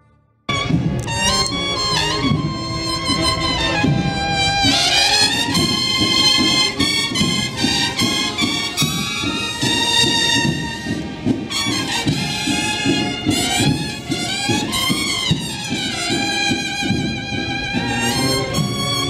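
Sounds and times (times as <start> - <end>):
marching band brass playing: 0.0 - 19.0.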